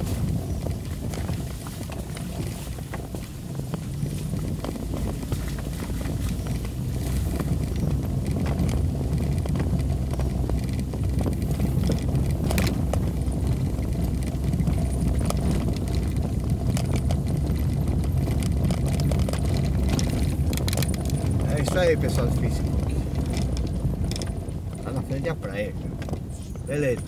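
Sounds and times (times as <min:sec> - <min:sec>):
knocks and rattles: 0:00.0 - 0:27.0
vehicle engine and road rumble: 0:00.0 - 0:27.0.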